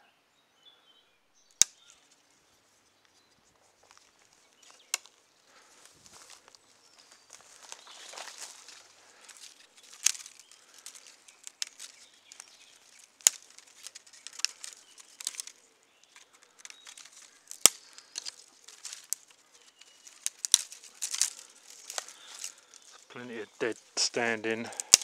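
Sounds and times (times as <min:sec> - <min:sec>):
dry twigs crackling and rustling: 0:01.4 - 0:25.0
sticks snapping: 0:01.5 - 0:02.2, 0:03.8 - 0:25.0.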